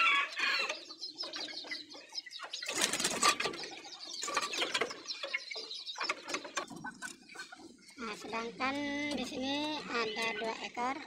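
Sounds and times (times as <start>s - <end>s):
chicks chirping and peeping: 0.0s - 11.0s.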